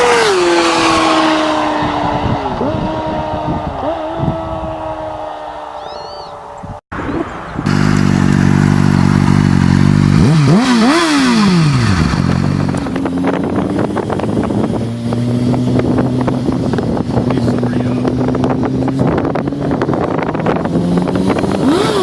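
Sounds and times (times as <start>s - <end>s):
motorcycle engine idling and revving: 0.0s - 5.3s, 7.1s - 22.0s.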